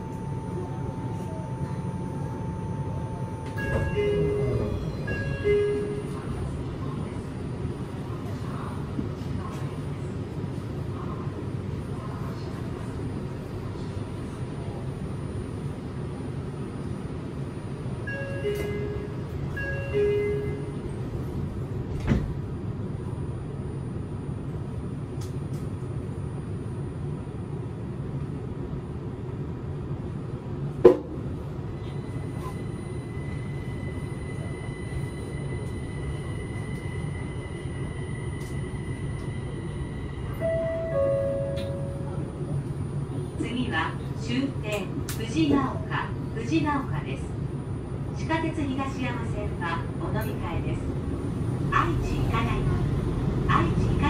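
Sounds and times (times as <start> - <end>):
train low hum: 0.0 - 54.0.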